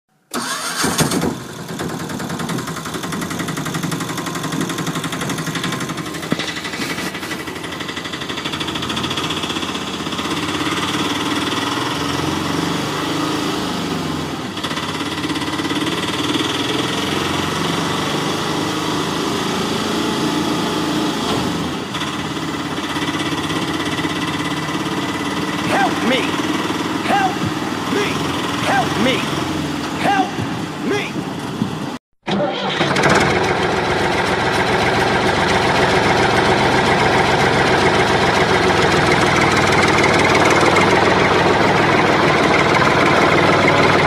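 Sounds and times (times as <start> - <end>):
vehicle engine running: 1.3 - 32.0, 33.0 - 44.0.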